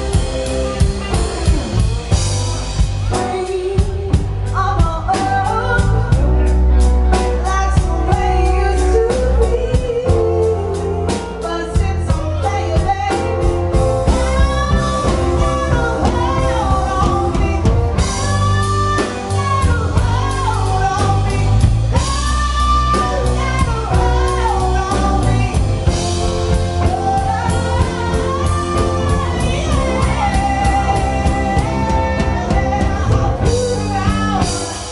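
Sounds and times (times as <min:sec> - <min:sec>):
drum kit: 0:00.0 - 0:34.9
electric bass: 0:00.0 - 0:34.9
guitars: 0:00.0 - 0:34.9
woman singing into a microphone: 0:00.0 - 0:34.9.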